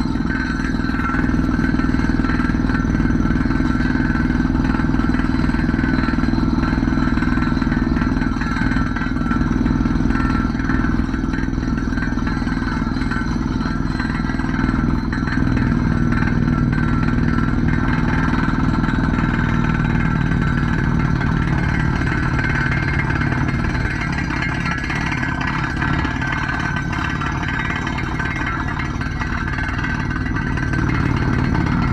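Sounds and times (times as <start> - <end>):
drilling machine engine drone: 0.0 - 31.9
machine clatter: 0.0 - 31.9.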